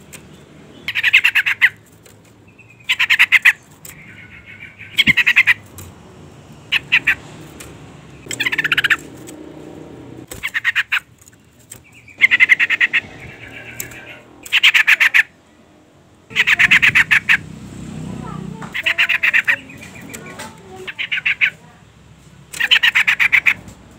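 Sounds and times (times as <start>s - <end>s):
bird chattering calls: 0.0s - 15.6s, 16.3s - 21.7s, 22.3s - 23.9s.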